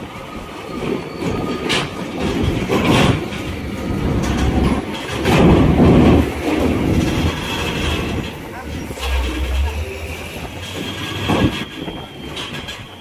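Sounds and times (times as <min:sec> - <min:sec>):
wheels clanking over steel ramp: 0:01.5 - 0:13.0
diesel truck engines running: 0:02.3 - 0:13.0.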